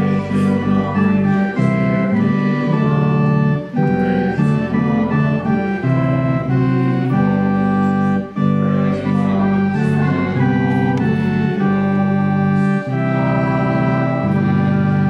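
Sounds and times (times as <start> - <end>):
organ playing chords: 0.0 - 15.0.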